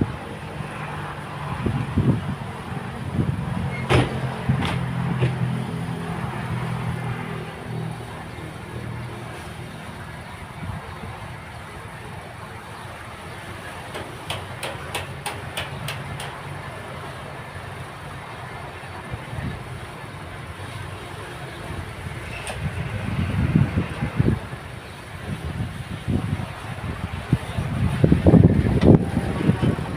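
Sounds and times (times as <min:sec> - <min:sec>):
diesel engine of heavy machinery: 0:00.0 - 0:29.9.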